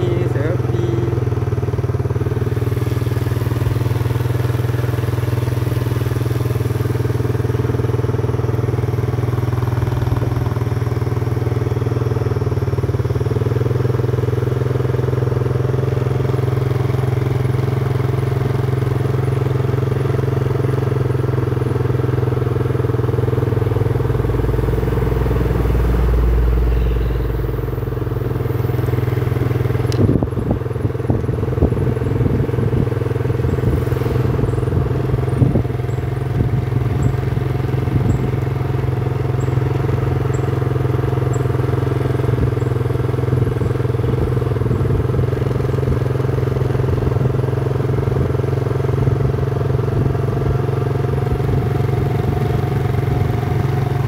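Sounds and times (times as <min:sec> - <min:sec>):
road noise: 0:00.0 - 0:54.0
vehicle engine running: 0:00.0 - 0:54.0.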